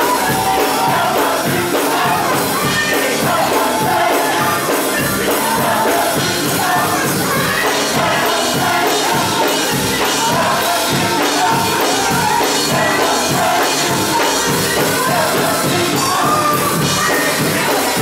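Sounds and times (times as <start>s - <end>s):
band accompaniment with steady beat: 0.0s - 18.0s
gospel choir singing: 0.0s - 18.0s.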